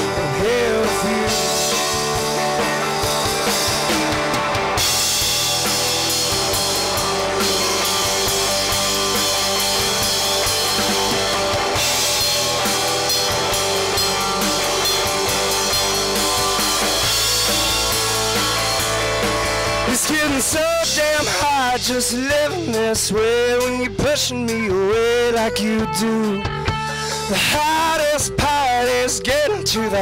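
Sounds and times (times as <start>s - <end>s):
country-rock band playing: 0.0s - 30.0s.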